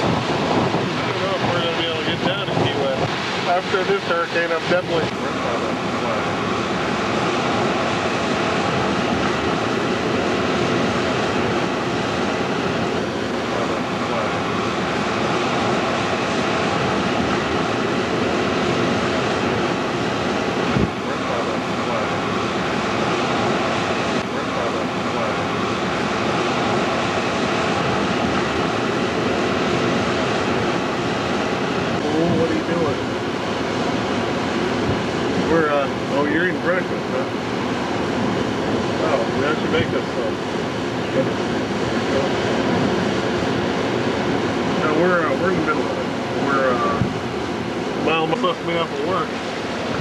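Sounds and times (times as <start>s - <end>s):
strong wind blowing: 0.0s - 50.0s.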